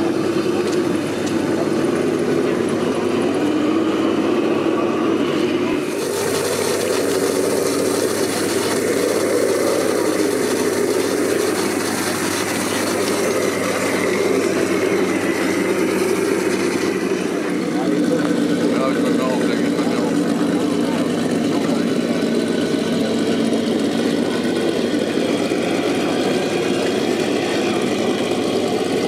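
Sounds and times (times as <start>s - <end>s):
engine-like mechanical drone: 0.0s - 29.0s.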